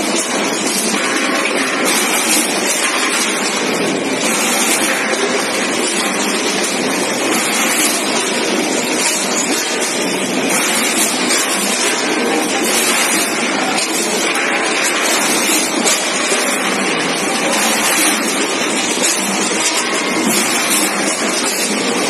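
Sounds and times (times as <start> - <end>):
packing machine running: 0.0 - 22.0.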